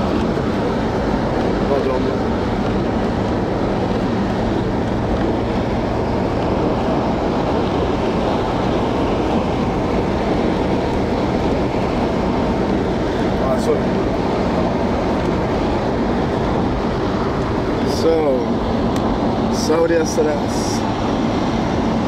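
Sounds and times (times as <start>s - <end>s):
car road and tyre noise: 0.0s - 22.0s.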